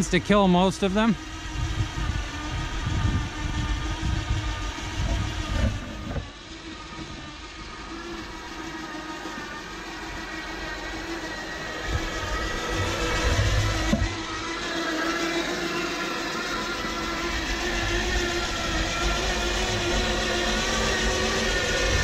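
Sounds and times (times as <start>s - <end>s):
electric motor whine: 0.0s - 22.0s.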